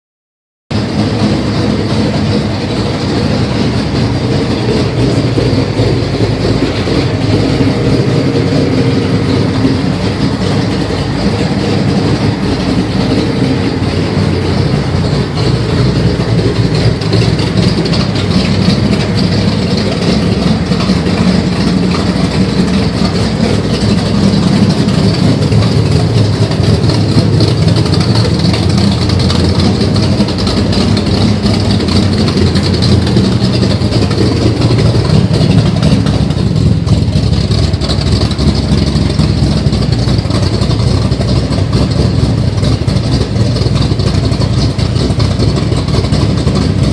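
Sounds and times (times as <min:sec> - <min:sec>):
car engine running loudly: 0:00.7 - 0:46.9.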